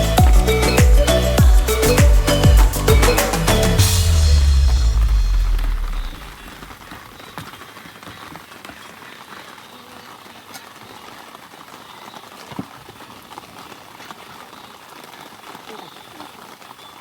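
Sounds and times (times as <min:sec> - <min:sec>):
rain hissing: 0:00.0 - 0:16.8.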